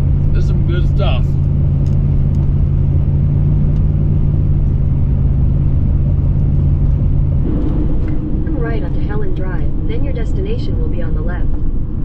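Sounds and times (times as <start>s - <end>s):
engine and road noise drone: 0.0s - 12.0s.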